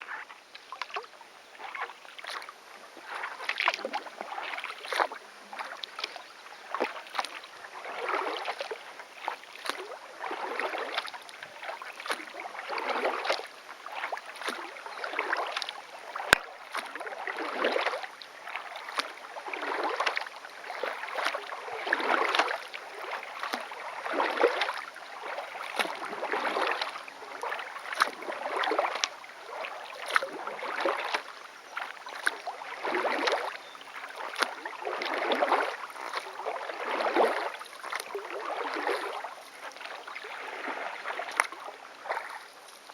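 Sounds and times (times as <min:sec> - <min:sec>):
kayak paddle strokes in water: 0:00.0 - 0:42.9
water splashing and dripping: 0:00.5 - 0:42.9.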